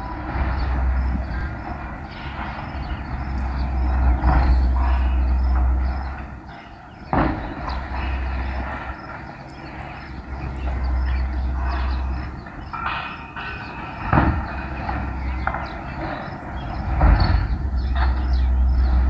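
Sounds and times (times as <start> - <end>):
heavy vehicle rumbling: 0.0 - 19.0.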